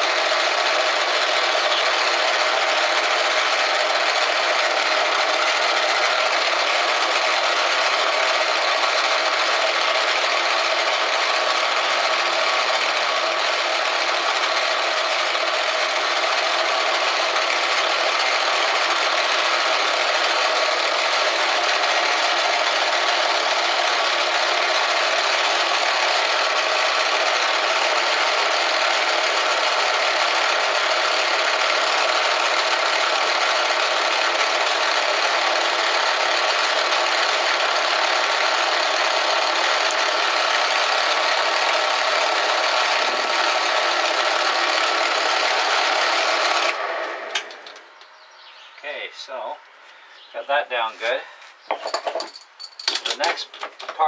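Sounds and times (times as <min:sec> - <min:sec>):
metal lathe running: 0:00.0 - 0:48.4.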